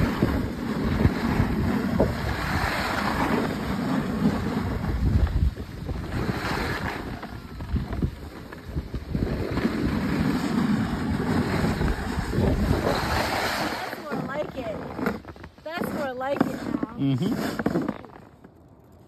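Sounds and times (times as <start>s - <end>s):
wind buffeting microphone: 0.0s - 16.9s
skis scraping over snow: 0.0s - 18.6s.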